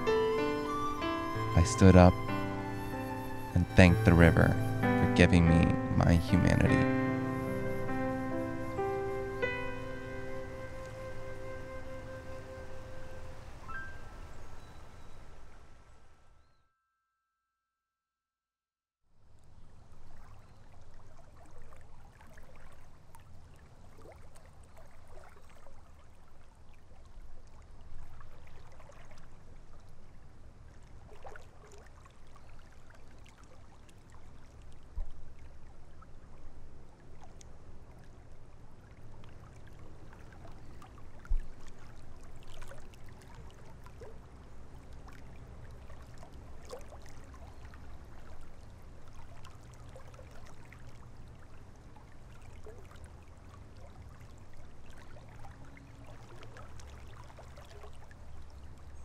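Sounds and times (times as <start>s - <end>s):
river water trickling and lapping: 0.0s - 16.6s, 19.1s - 59.0s.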